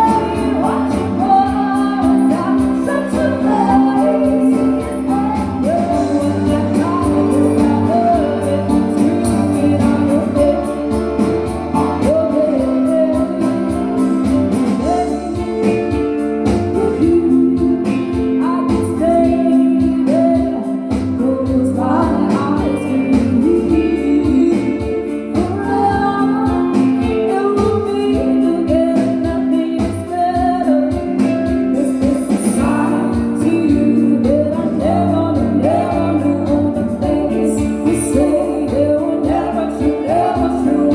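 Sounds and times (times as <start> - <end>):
guitar accompaniment: 0.0 - 40.9
person singing: 0.0 - 40.9.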